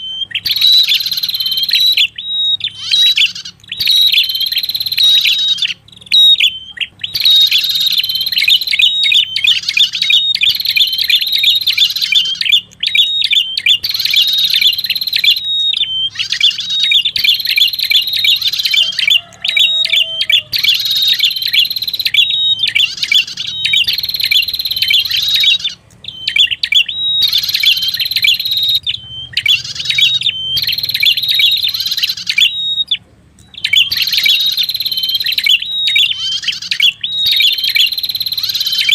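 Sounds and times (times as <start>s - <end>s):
bird call chattering: 0.0s - 38.9s.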